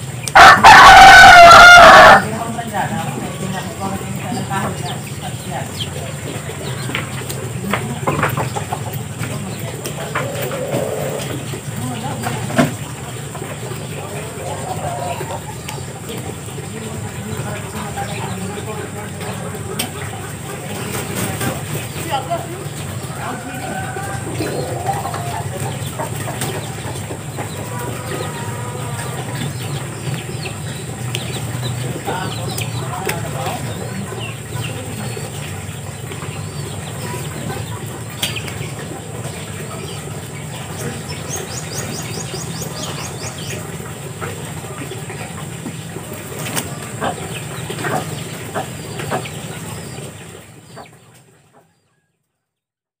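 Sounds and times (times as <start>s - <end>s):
hens clucking: 0.0s - 52.4s.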